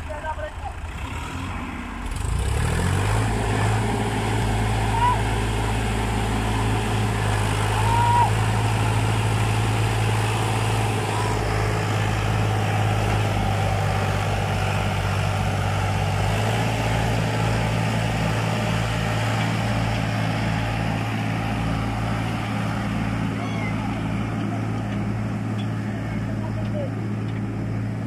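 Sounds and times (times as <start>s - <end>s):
diesel tractor engines under load: 0.0s - 28.0s.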